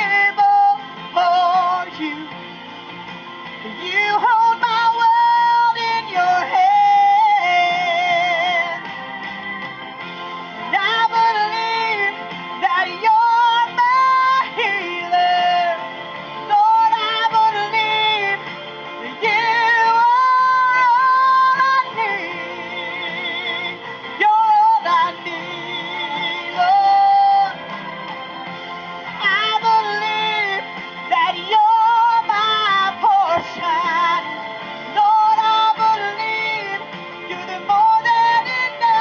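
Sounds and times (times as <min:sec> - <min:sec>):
woman singing gospel song: 0:00.0 - 0:02.4, 0:03.6 - 0:08.8, 0:10.7 - 0:15.8, 0:16.5 - 0:27.6, 0:29.2 - 0:39.0
instrumental backing: 0:00.0 - 0:39.0.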